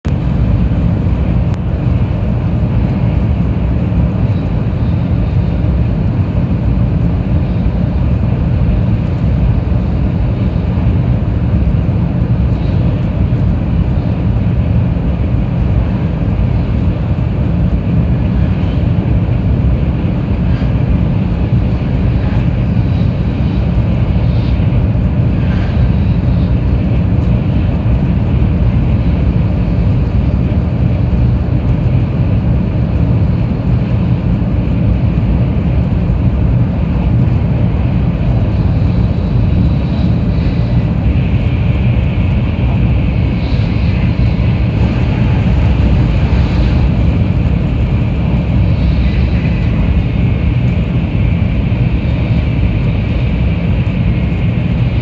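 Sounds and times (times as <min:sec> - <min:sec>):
train rumbling inside cabin: 0:00.0 - 0:55.0
rain ticking on window glass: 0:05.7 - 0:55.0.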